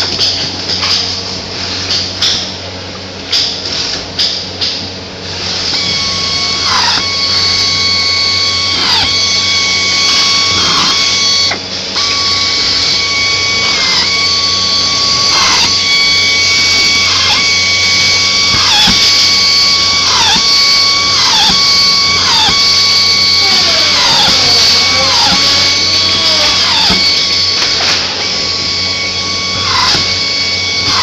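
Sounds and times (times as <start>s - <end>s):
power screw gun whining: 5.6s - 31.0s.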